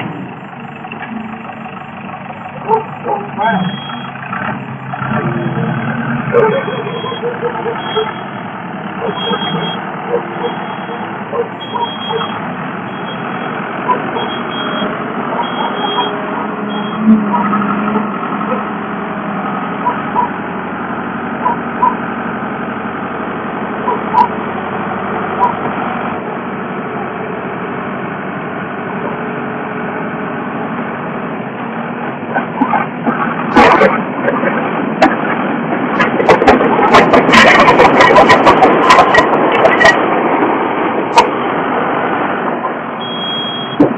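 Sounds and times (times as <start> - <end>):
loader engine running: 0.0 - 43.9.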